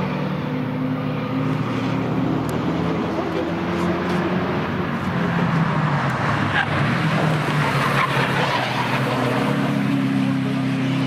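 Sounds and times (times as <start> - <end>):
race cars driving past: 0.0 - 11.0.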